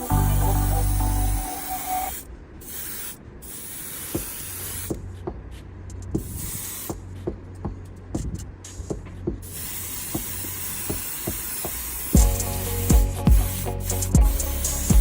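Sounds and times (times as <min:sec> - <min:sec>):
spray paint hissing: 0:00.0 - 0:05.1, 0:06.0 - 0:07.2, 0:08.7 - 0:15.0.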